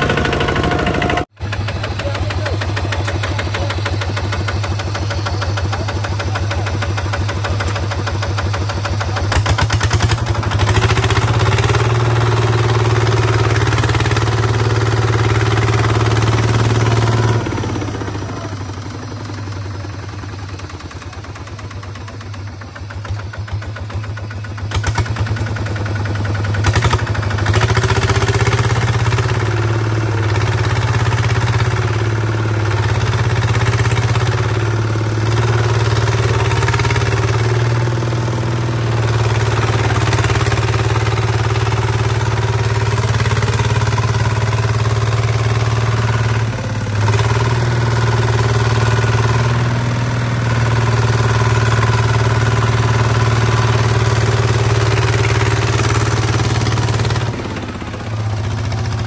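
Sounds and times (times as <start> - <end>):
bulldozer engine running: 0.0 - 59.0.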